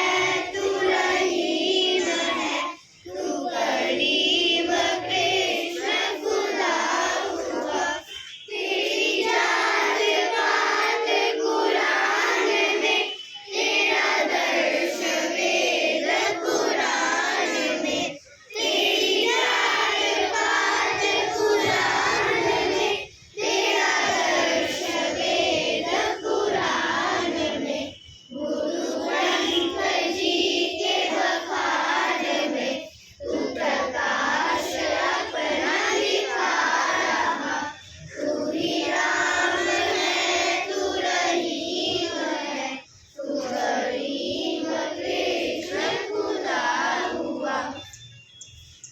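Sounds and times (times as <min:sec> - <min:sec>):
children singing in unison: 0:00.0 - 0:48.1.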